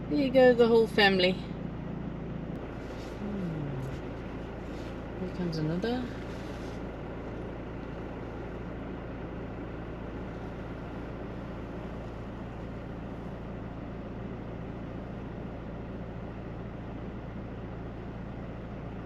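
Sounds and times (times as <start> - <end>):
engine idling inside cab: 0.0 - 19.0.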